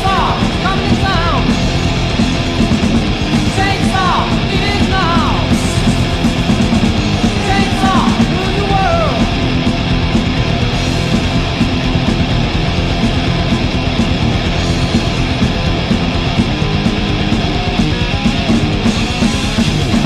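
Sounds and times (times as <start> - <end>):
heavy metal band playing: 0.0 - 20.0
high falling guitar glides: 0.0 - 20.0.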